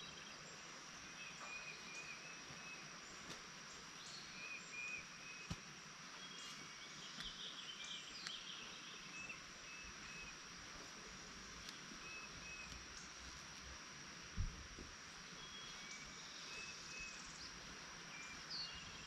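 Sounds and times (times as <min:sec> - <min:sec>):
high insect hum: 0:00.0 - 0:19.0.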